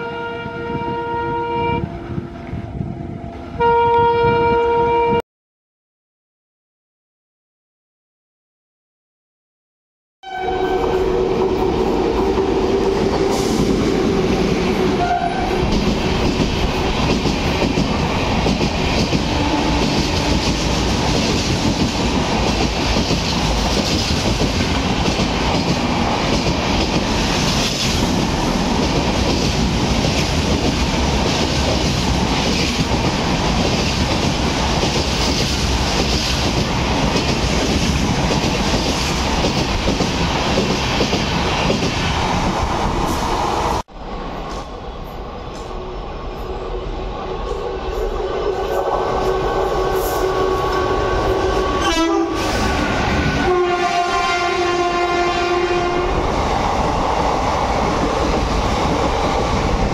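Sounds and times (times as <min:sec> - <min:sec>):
train wheels rushing on rail: 0:10.5 - 0:59.9.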